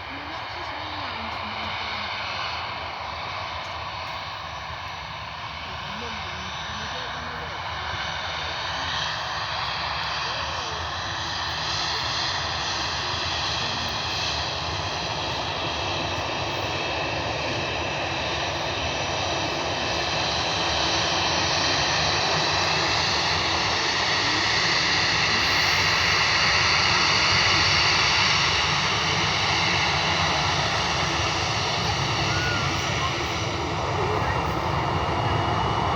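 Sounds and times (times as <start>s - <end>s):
jet engines roaring: 0.0s - 35.9s
steady engine whine: 0.0s - 35.9s.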